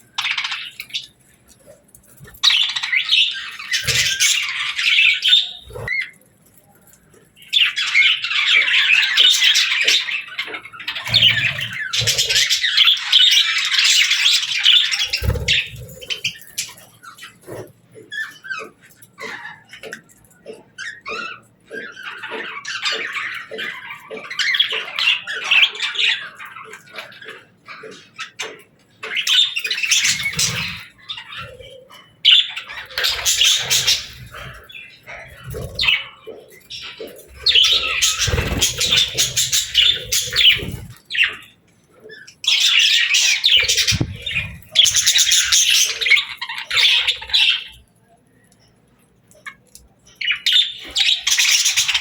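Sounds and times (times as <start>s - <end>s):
budgerigars chattering and chirping: 0.0s - 52.0s.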